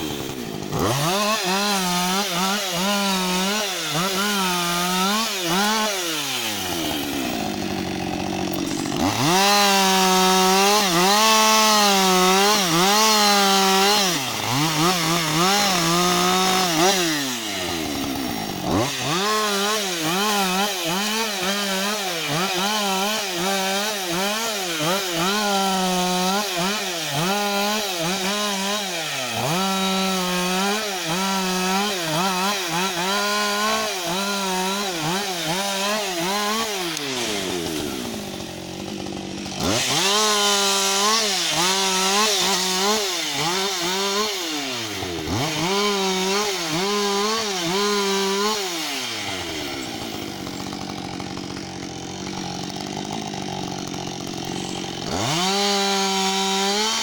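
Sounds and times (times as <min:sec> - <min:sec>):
chainsaw cutting branches: 0:00.0 - 0:57.0
chainsaw idling: 0:00.0 - 0:57.0.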